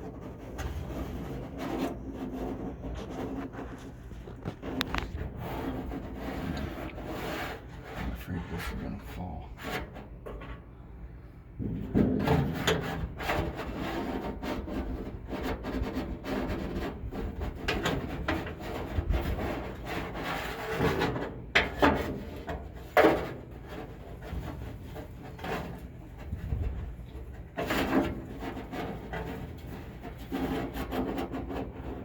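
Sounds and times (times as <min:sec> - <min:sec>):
metal plate scraping sheet metal: 0:00.0 - 0:10.6, 0:11.8 - 0:32.0.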